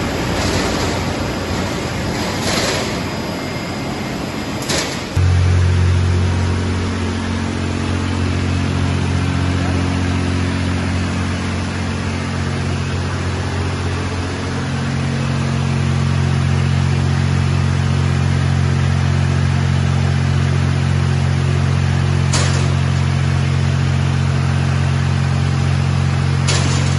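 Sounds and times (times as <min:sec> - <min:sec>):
machine hum: 0:00.0 - 0:26.9.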